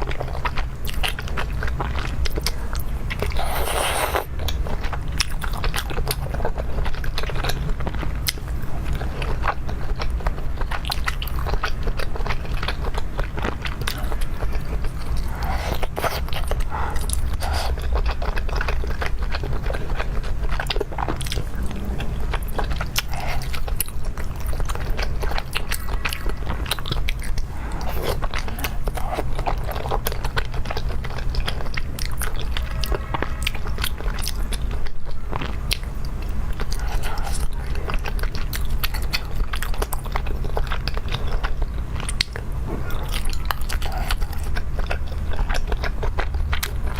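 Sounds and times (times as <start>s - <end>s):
wet mouth sounds: 0.0s - 6.4s, 10.7s - 34.7s, 35.3s - 46.9s
crunchy chewing: 0.0s - 46.9s
low hum: 1.1s - 40.4s.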